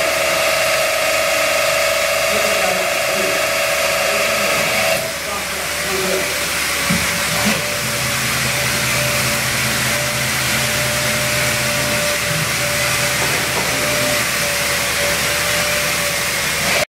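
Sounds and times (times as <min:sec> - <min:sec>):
coolant spraying and splashing: 0:00.0 - 0:16.8
machine motor whine: 0:00.0 - 0:16.9.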